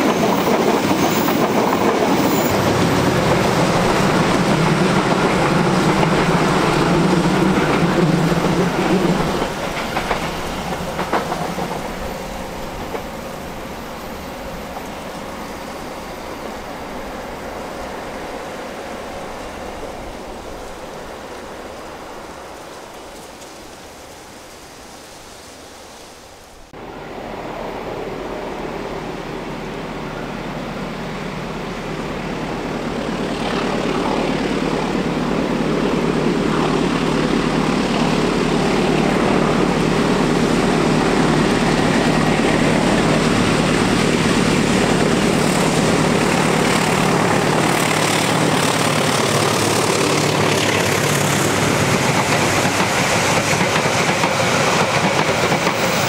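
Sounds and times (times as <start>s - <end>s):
locomotive engine drone: 0.0s - 21.3s, 26.8s - 56.0s.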